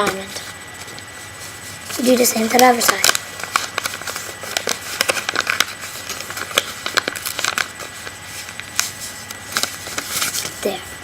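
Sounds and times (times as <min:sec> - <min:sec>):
paper crackling and crinkling: 0:00.0 - 0:11.0.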